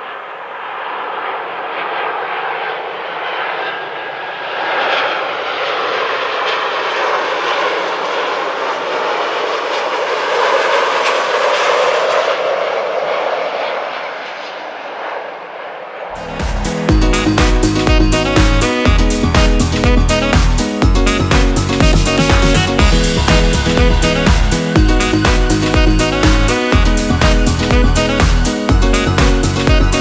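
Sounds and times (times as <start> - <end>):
jet airliner passing overhead: 0.0 - 30.0.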